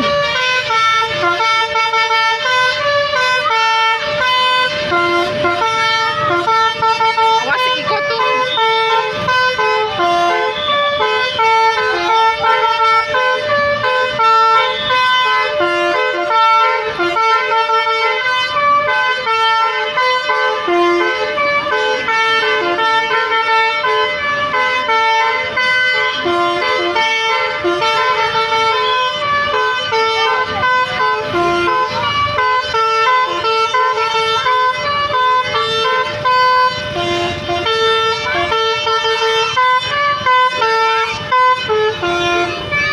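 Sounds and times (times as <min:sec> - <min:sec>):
musical bus horn melody: 0:00.0 - 0:42.9.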